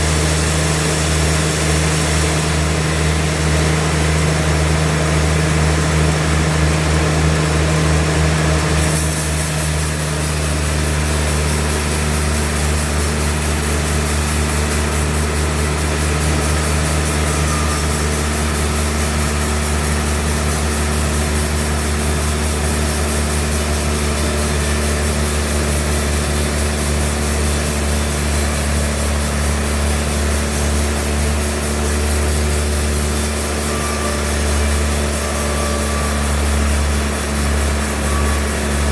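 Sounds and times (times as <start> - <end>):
saw cutting through log: 0.0 - 38.9
sawmill engine humming: 0.0 - 38.9.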